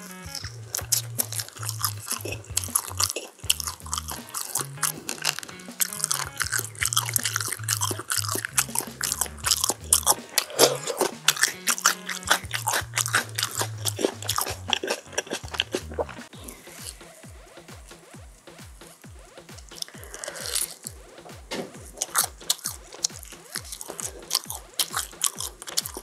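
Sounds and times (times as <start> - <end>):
crunching and chewing food: 0.0 - 17.1, 18.8 - 21.0, 21.6 - 26.0
background music: 0.0 - 26.0.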